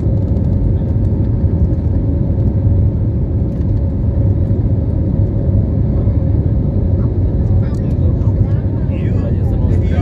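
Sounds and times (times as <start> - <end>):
jet engine drone in cabin: 0.0 - 10.0.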